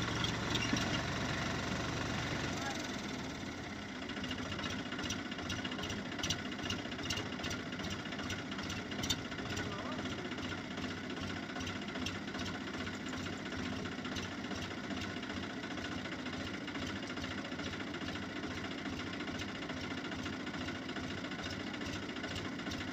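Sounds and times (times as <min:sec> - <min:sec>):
tractor diesel engine idling: 0:00.0 - 0:22.9.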